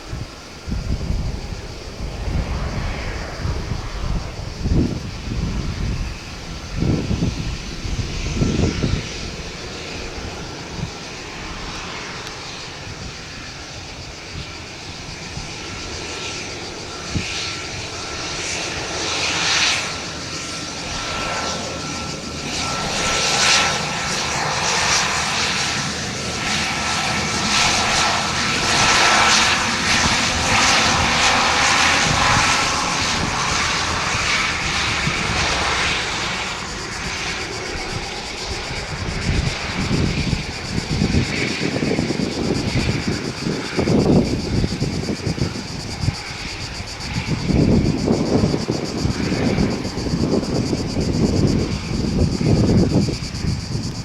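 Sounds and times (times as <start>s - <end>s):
steady high whine: 0.0s - 54.0s
turboprop engines running: 0.0s - 54.0s.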